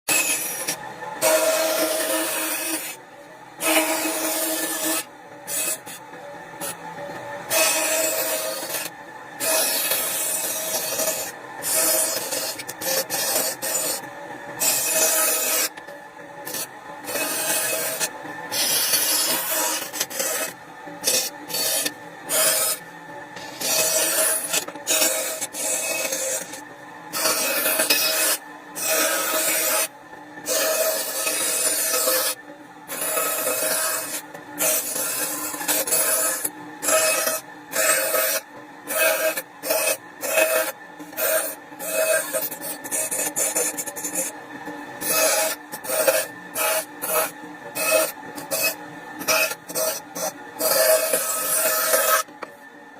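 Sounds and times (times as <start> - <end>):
bandsaw cutting wood: 0.1 - 3.0, 3.6 - 6.0, 7.5 - 15.8, 16.4 - 22.8, 23.4 - 44.4, 45.0 - 52.5
bandsaw running hum: 0.1 - 52.9.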